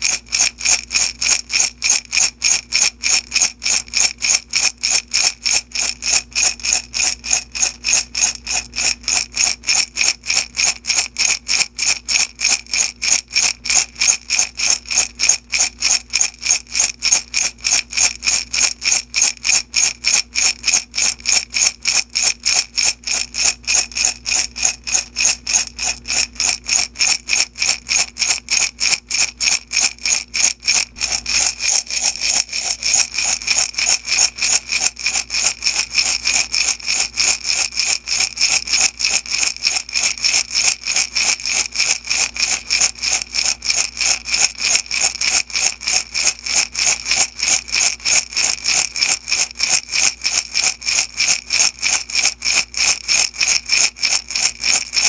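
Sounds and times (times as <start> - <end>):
beads rattling in glass jar: 0.0 - 55.0.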